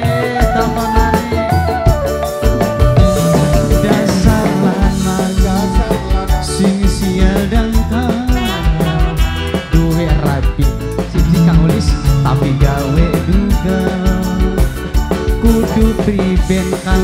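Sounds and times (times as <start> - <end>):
live band music over loudspeakers: 0.0 - 17.0.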